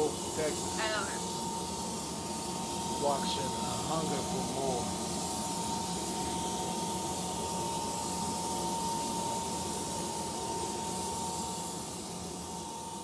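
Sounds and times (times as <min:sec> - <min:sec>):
nitrogen vapour hissing: 0:00.0 - 0:13.0
steady high hum: 0:00.0 - 0:13.0.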